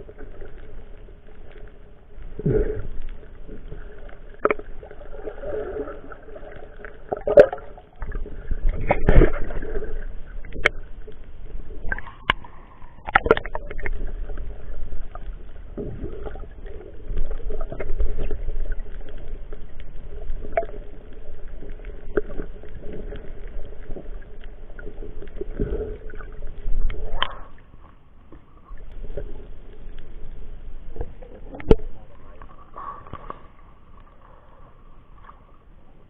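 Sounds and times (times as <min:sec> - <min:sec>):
muffled underwater rumble: 0:00.0 - 0:36.0.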